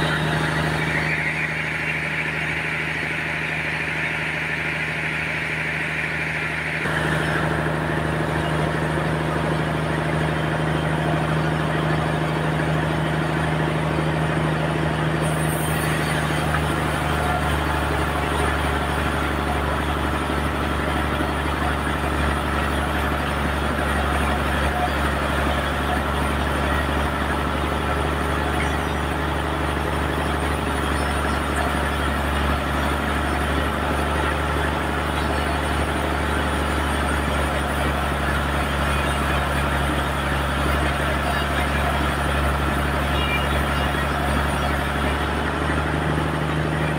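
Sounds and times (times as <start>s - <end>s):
sawmill machine drone: 0.0s - 46.9s.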